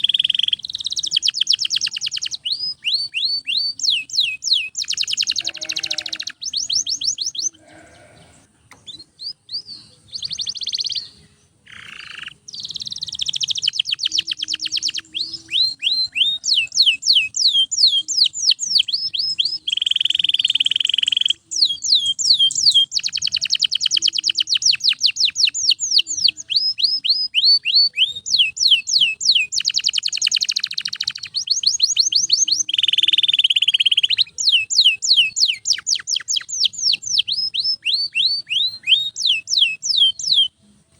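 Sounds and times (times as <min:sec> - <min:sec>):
canary singing trills: 0:00.0 - 0:40.7.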